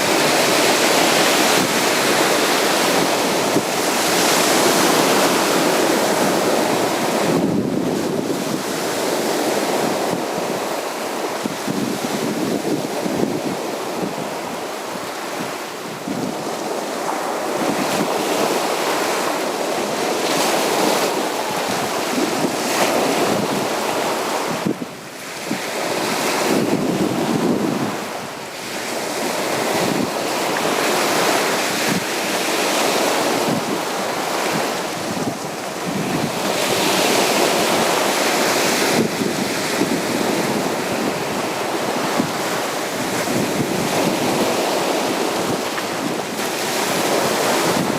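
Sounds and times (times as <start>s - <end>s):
sea waves washing onto beach: 0.0s - 47.9s.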